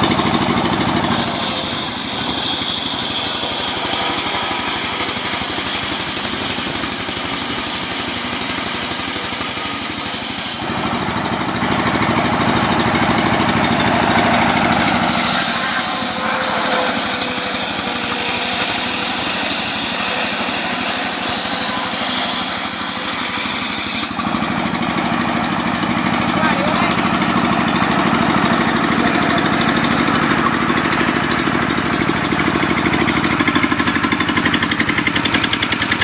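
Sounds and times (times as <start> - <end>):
small petrol engine running: 0.0 - 36.0.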